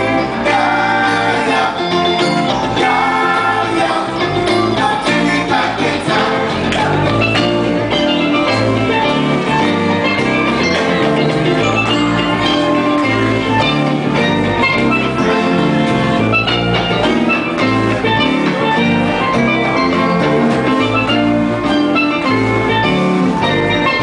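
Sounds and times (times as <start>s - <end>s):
steel pan melody: 0.0s - 24.0s.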